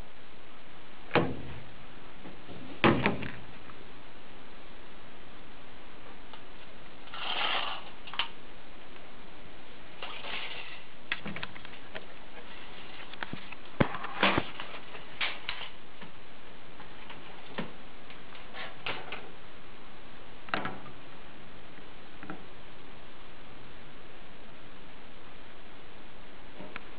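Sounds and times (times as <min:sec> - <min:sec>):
steady hiss: 0:00.0 - 0:26.9.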